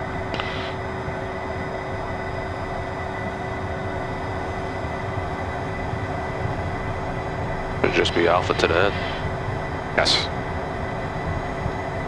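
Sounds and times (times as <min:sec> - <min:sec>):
jet engines idling with whine: 0:00.0 - 0:12.0.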